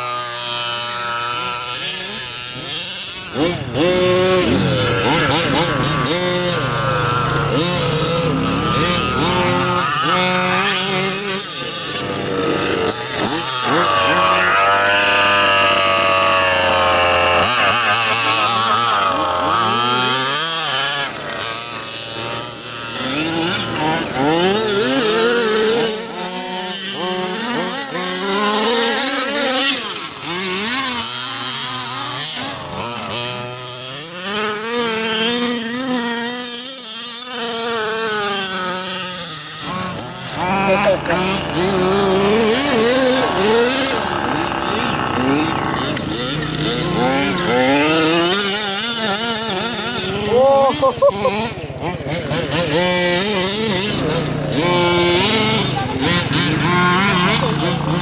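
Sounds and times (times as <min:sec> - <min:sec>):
small two-stroke engines revving: 0:00.0 - 0:58.0.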